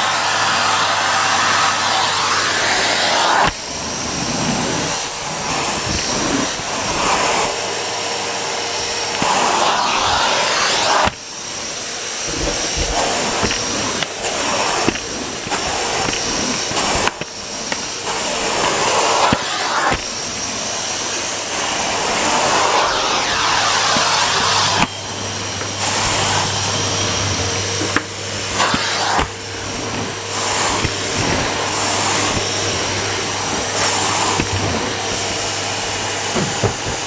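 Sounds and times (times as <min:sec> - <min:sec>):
vacuum cleaner airflow rushing: 0:00.0 - 0:37.0.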